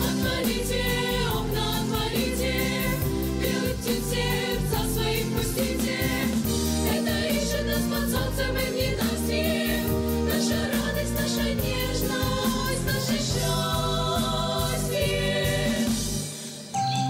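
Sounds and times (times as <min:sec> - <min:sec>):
girls' choir singing: 0:00.0 - 0:16.1
instrumental accompaniment with bass: 0:00.0 - 0:17.0.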